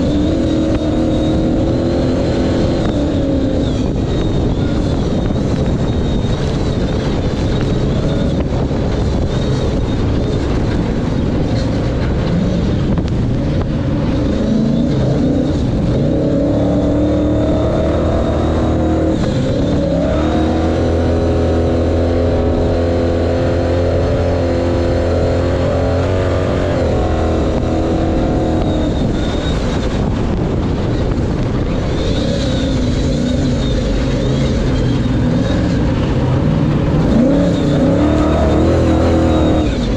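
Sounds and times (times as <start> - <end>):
rough rumble of truck and terrain: 0.0 - 39.9
truck engine revving hard: 0.0 - 39.9.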